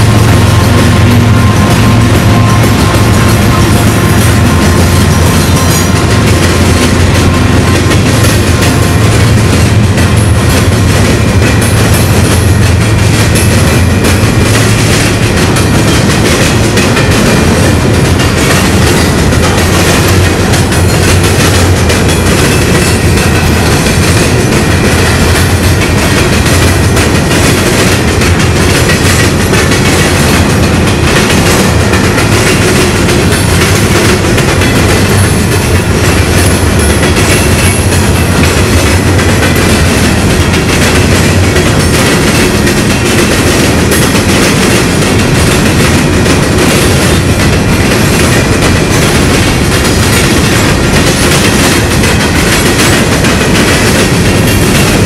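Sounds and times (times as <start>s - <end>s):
steel wheels rumbling on rail: 0.0s - 55.0s
wheels clattering on rail joints: 0.0s - 55.0s.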